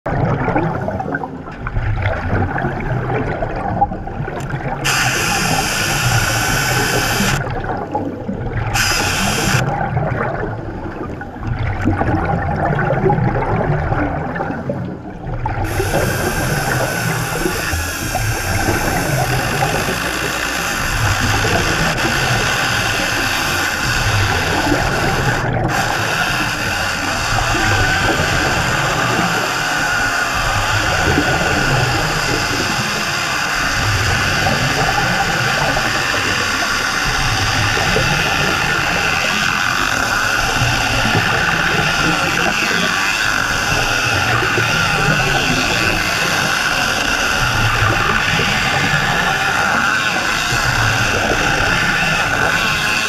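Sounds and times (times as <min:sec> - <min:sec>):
underwater chainsaw: 0:00.1 - 0:53.0
water churning and bubbles: 0:00.1 - 0:53.0.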